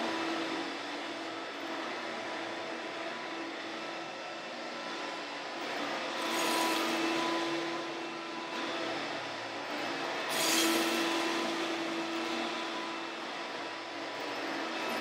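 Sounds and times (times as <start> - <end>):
vacuum cleaner running over carpet: 0.0 - 15.0.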